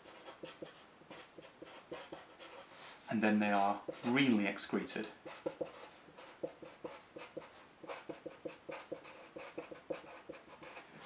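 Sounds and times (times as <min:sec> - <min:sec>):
marker pen scratching on paper: 0:00.0 - 0:04.4, 0:05.2 - 0:11.0.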